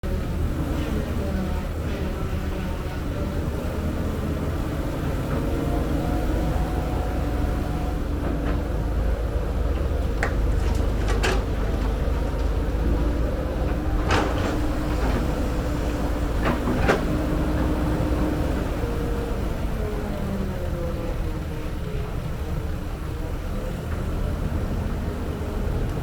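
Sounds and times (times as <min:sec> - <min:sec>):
diesel engine of heavy machinery: 0:00.0 - 0:26.0.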